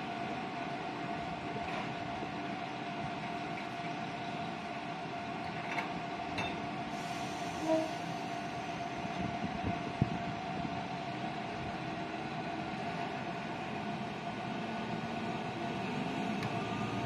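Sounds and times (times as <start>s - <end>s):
diesel railcar idling: 0.0s - 17.0s.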